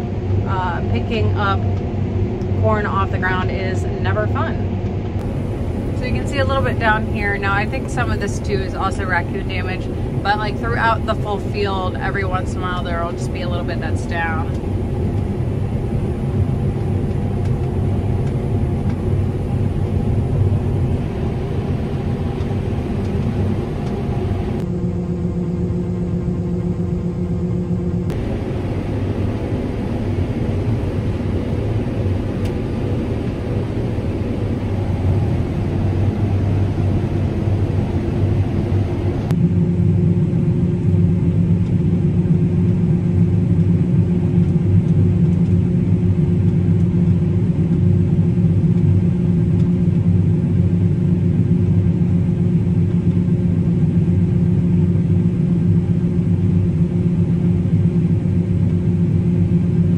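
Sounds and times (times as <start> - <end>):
combine harvester engine hum: 0.0 - 59.9.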